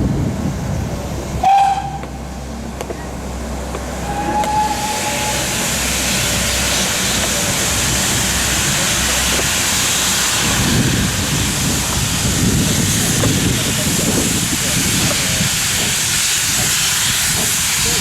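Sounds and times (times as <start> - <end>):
steam locomotive hissing: 0.7 - 18.0.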